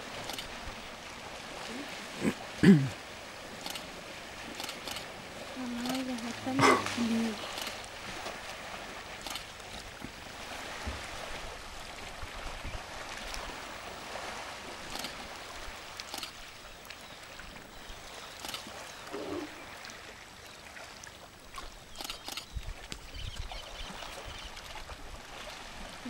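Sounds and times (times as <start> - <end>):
elephants splashing water: 0.0 - 26.0.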